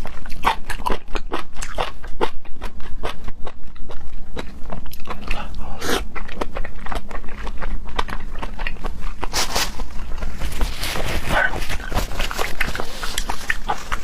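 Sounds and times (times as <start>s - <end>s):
chewing and biting seafood: 0.0s - 14.0s.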